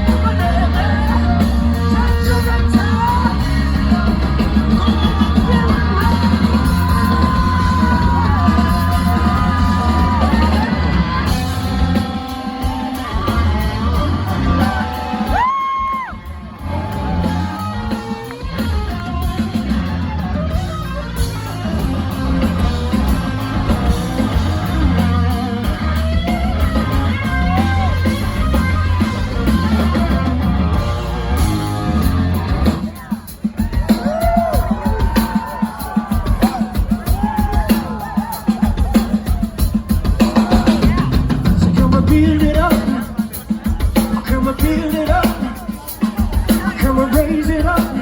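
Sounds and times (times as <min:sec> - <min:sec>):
rock band playing live: 0:00.0 - 0:48.0.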